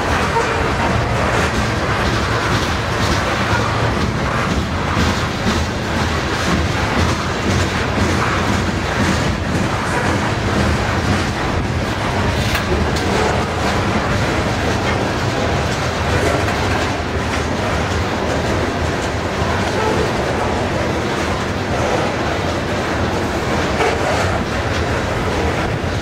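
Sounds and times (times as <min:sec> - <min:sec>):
deep rumble of train wheels: 0:00.0 - 0:26.0
wheels clacking over rail joints: 0:00.0 - 0:26.0.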